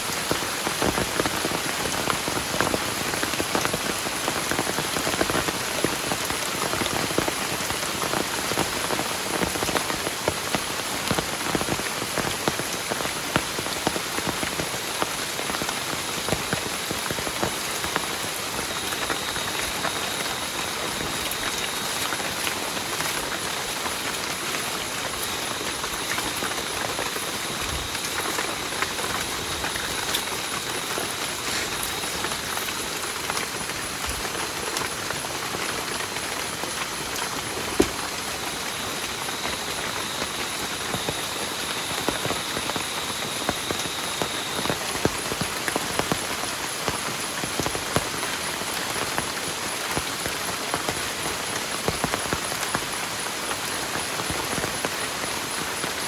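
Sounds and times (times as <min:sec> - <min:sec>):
drops ticking on a tarp: 0:00.0 - 0:56.0
heavy rain falling: 0:00.0 - 0:56.0.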